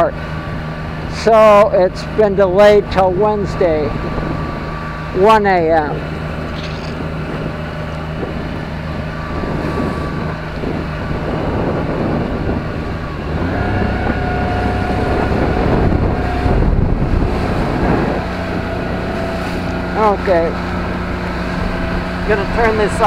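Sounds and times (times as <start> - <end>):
outboard motor running: 0.0 - 23.0
wind buffeting microphone: 0.0 - 23.0.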